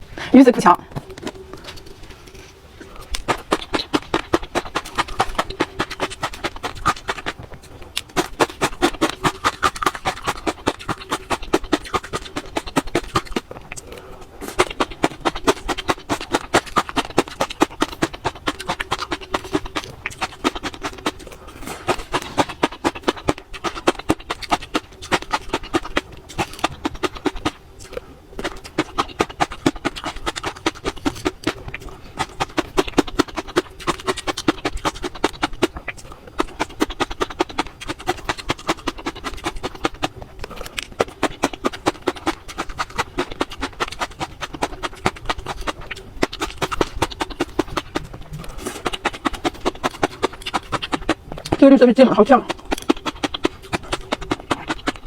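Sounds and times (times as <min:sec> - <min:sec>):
crisp crunching and chewing: 0:00.8 - 0:55.0.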